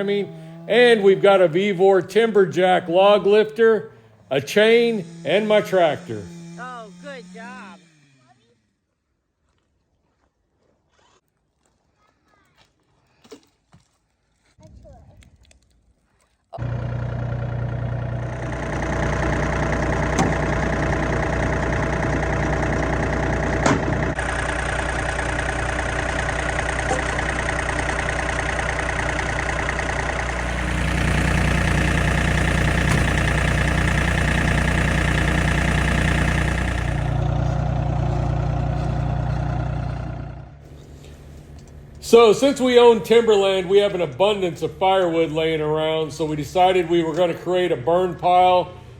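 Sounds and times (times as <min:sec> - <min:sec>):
tractor engine running: 0:00.0 - 0:08.2, 0:16.6 - 0:48.9.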